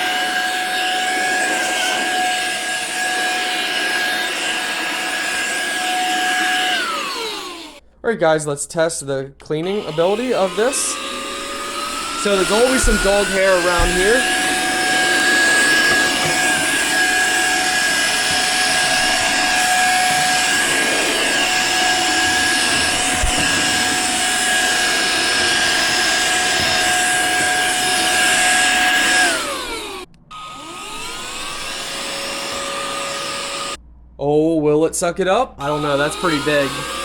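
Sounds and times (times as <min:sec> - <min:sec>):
vacuum fan motor whine: 0:00.0 - 0:07.8, 0:09.6 - 0:33.8, 0:35.6 - 0:37.0.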